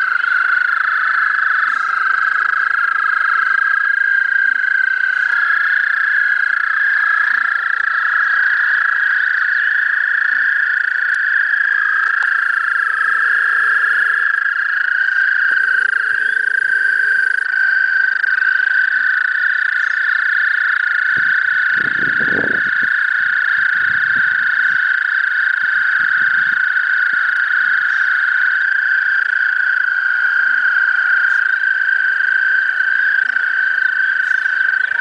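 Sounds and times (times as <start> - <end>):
chorus of toads trilling: 0.0 - 35.0.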